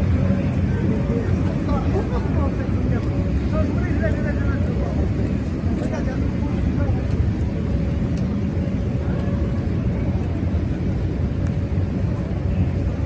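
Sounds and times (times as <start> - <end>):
faint held hum: 0.0 - 13.0
traffic rumble: 0.0 - 13.0.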